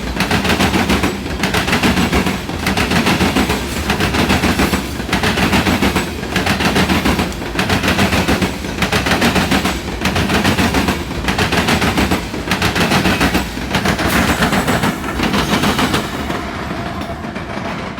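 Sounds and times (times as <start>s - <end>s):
freight train wheels clattering: 0.0s - 17.9s.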